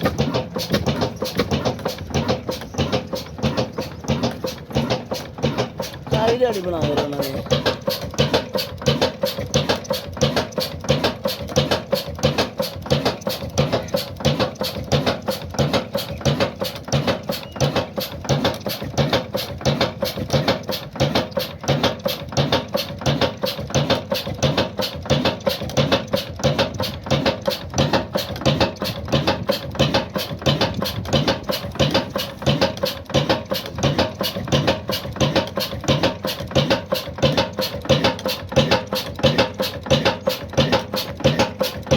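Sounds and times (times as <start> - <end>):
diesel engine knocking: 0.0 - 41.9.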